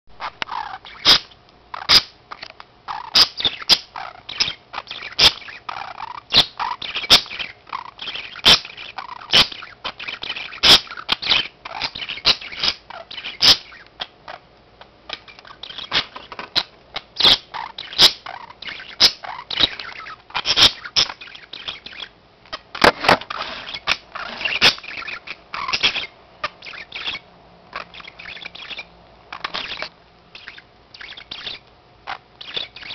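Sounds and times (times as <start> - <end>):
budgerigars chirping and chattering: 0.2 - 32.9.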